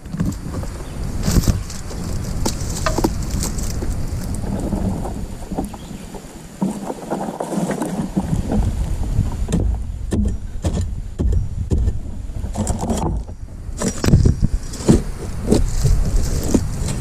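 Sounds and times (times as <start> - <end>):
dry fronds and leaves rustling: 0.0 - 11.0, 12.0 - 17.0
wind buffeting microphone: 0.0 - 17.0.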